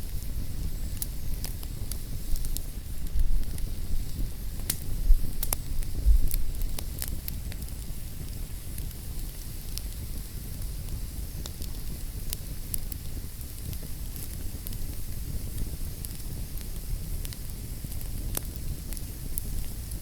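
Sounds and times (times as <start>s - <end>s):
fire crackling and popping: 0.0s - 20.0s
wood fire rumbling and hissing: 0.0s - 20.0s.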